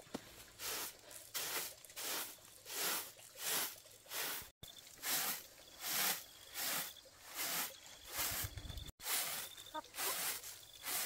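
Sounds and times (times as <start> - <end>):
broom sweeping ground: 0.0 - 11.0.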